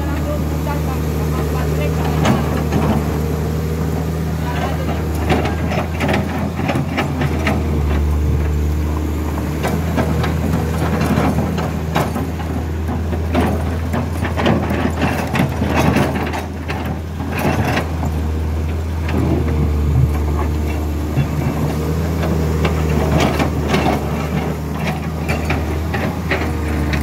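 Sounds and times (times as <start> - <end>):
diesel engine running: 0.0 - 27.0
knocks and rattles: 0.2 - 27.0.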